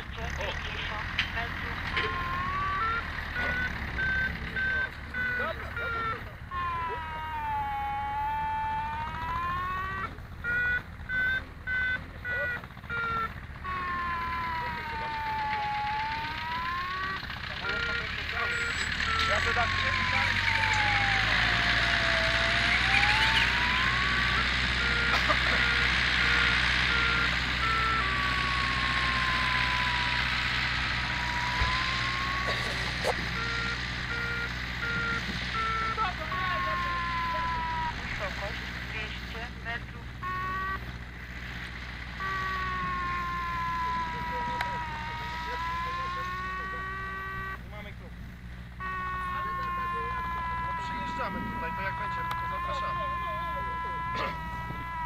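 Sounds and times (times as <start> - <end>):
electronic tone sliding in pitch: 1.9 - 12.0, 12.9 - 38.3, 42.2 - 47.6, 48.8 - 55.0.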